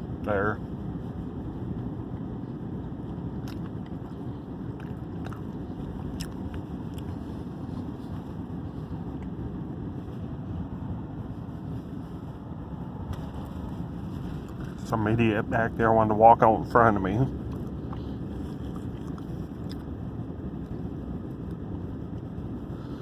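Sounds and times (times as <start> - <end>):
vehicle engine and tyre rumble: 0.0 - 23.0.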